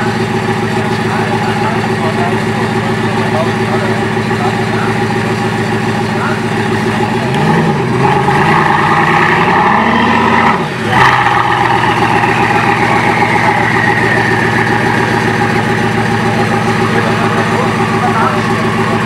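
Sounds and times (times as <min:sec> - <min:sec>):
car engine revving: 0:00.0 - 0:19.0
high whine: 0:00.0 - 0:19.0.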